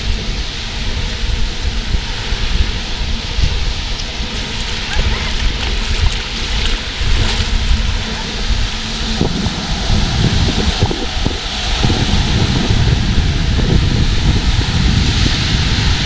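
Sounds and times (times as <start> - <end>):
low steady hum: 0.0 - 16.0
surf rushing: 0.0 - 16.0
wind buffeting microphone: 0.0 - 16.0.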